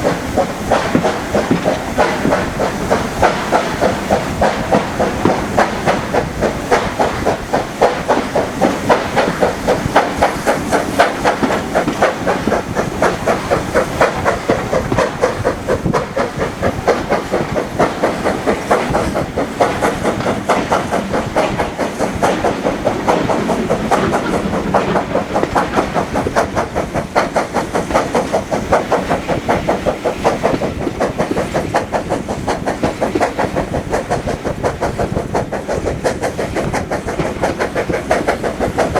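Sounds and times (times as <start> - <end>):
steam train running: 0.0 - 38.9.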